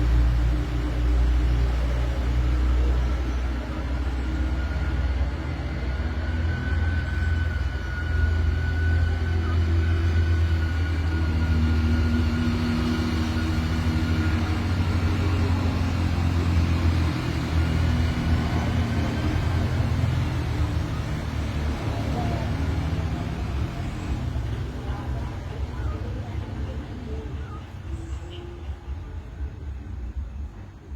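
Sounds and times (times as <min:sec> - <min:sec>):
vehicle engine rumbling: 0:00.0 - 0:30.9.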